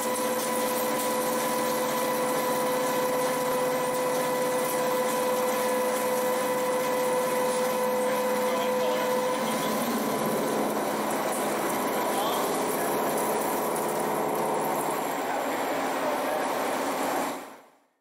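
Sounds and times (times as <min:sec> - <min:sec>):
cutting and coolant hiss: 0:00.0 - 0:17.6
milling spindle whine: 0:00.0 - 0:17.6.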